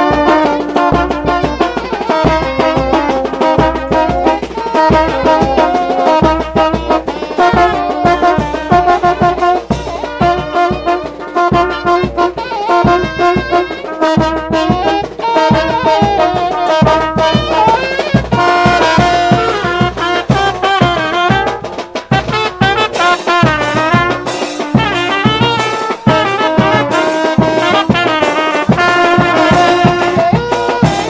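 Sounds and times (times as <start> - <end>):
brass band playing: 0.0 - 31.0
steady drum beat: 0.0 - 31.0
trumpets and trombones melody: 0.0 - 31.0.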